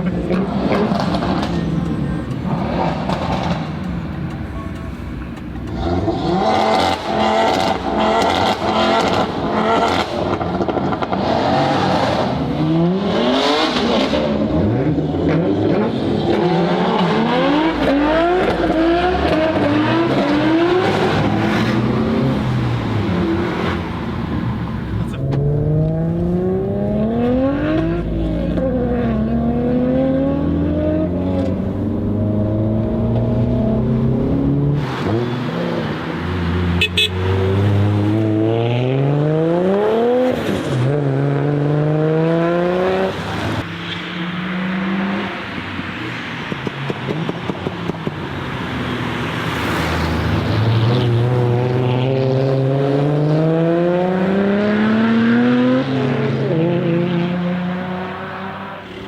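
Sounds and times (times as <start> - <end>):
car engine revving: 0.0 - 4.5, 5.1 - 45.6, 46.9 - 59.0.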